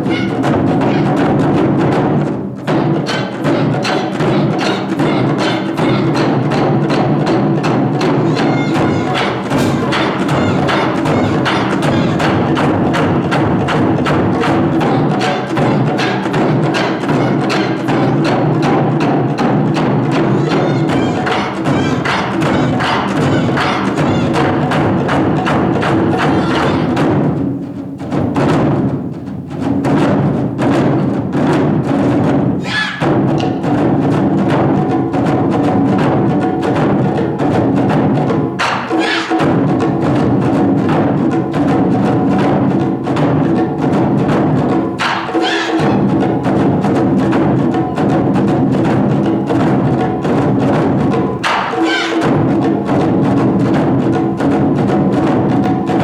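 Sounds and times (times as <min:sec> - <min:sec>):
taiko drums playing: 0:00.0 - 0:56.0.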